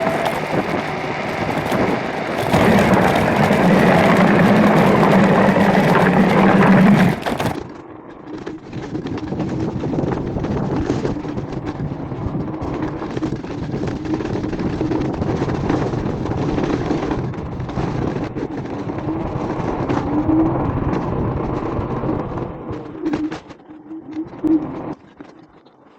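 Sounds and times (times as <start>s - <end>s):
scooter engine hum: 0.0s - 8.1s, 8.9s - 25.0s.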